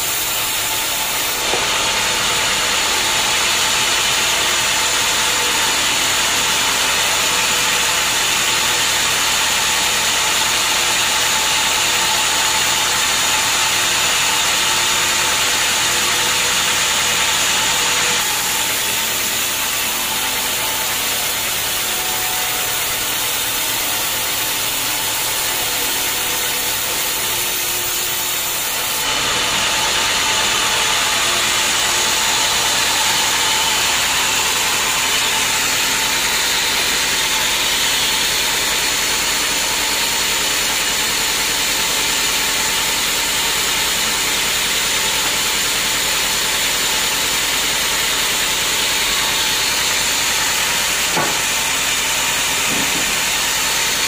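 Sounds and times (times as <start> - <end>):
band saw cutting wood: 0.0 - 54.0.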